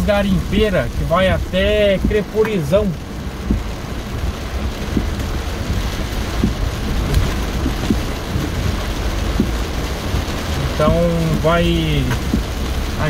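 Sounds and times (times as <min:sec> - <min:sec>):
low rumble of moving car: 0:00.0 - 0:13.0
rain on car windshield: 0:00.0 - 0:13.0.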